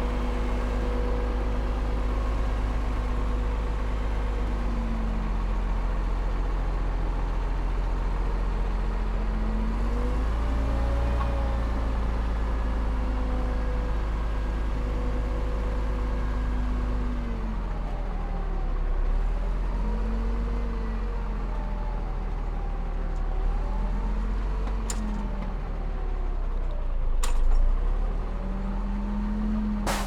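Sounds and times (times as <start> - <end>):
diesel machinery rumbling: 0.0 - 30.0.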